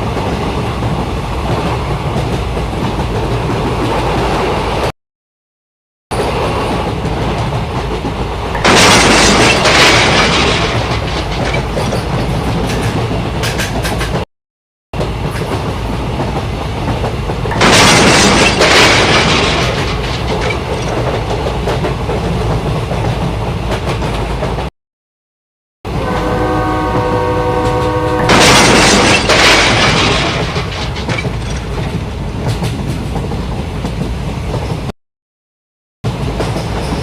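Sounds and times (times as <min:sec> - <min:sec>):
train rumbling and clattering: 0:00.0 - 0:04.9, 0:06.1 - 0:14.3, 0:15.0 - 0:24.7, 0:25.9 - 0:34.9, 0:36.1 - 0:37.0.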